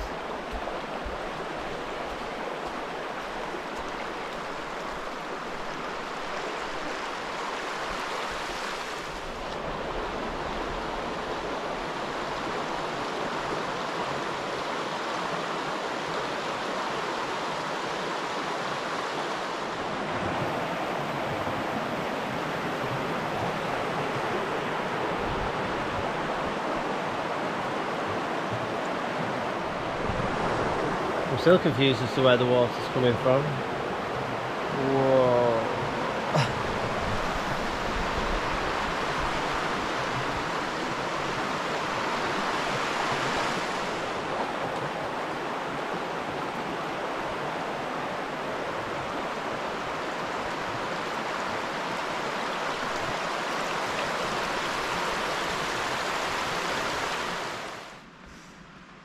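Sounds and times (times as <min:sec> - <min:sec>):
stream rushing: 0:00.0 - 0:59.0.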